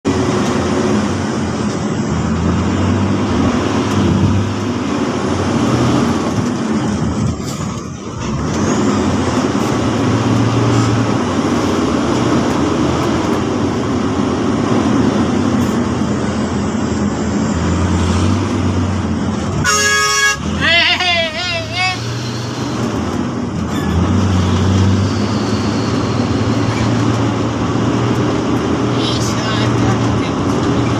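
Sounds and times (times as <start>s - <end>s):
dump truck engine running: 0.0s - 30.9s.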